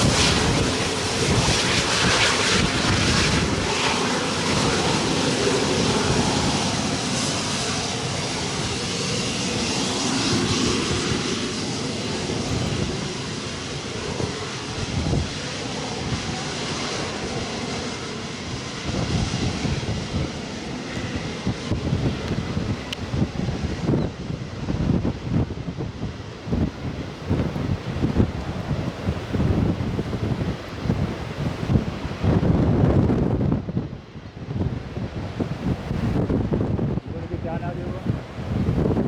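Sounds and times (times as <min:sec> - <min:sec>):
airliner engines passing: 0:00.0 - 0:39.0
wind buffeting microphone: 0:00.0 - 0:39.0.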